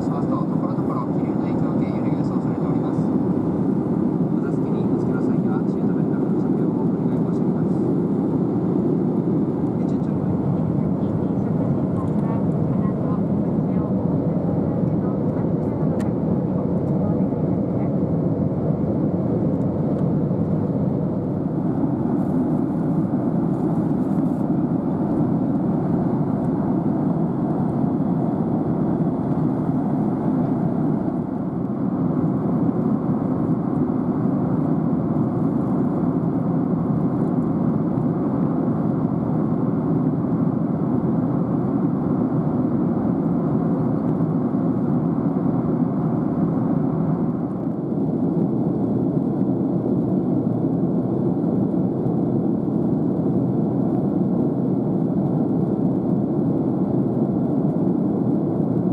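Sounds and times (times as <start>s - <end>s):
airliner cabin noise: 0.0s - 58.9s.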